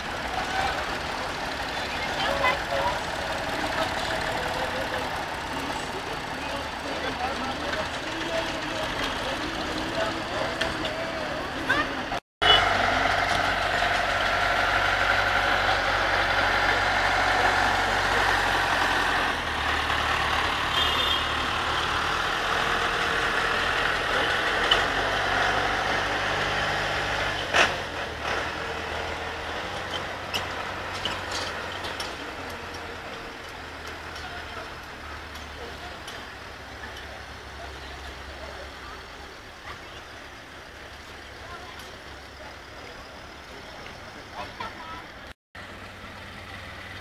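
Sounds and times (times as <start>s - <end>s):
tractor diesel engine passing: 0.0s - 47.0s
van engine: 0.0s - 47.0s.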